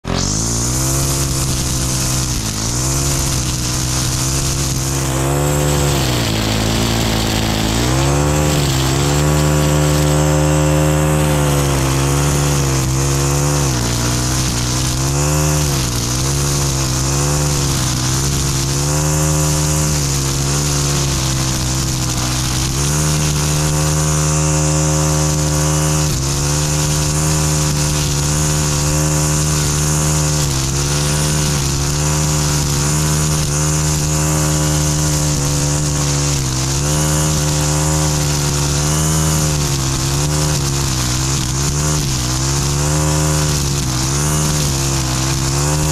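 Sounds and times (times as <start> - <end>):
string trimmer engine running: 0.0 - 45.9
trimmer line cutting weeds: 0.0 - 45.9.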